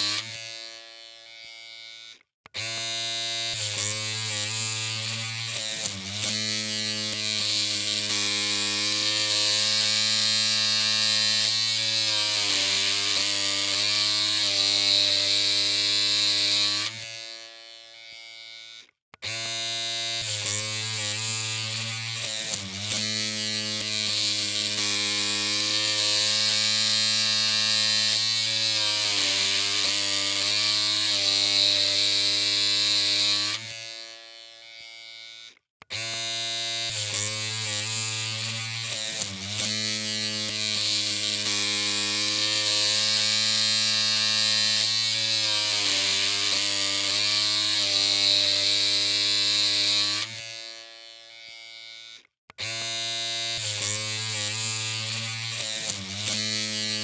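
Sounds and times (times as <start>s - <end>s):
electric hair clippers humming: 0.0s - 57.0s.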